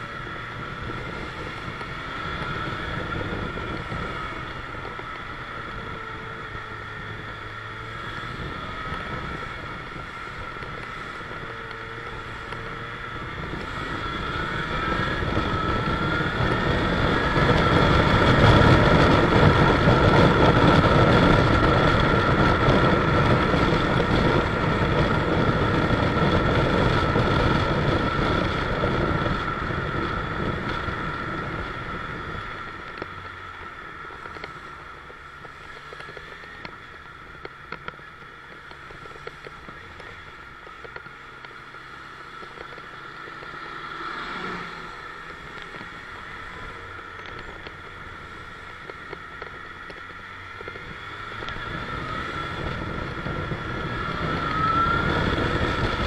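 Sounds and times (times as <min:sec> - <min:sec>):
motorcycle engine: 0:00.0 - 0:56.0
wind noise: 0:00.0 - 0:56.0.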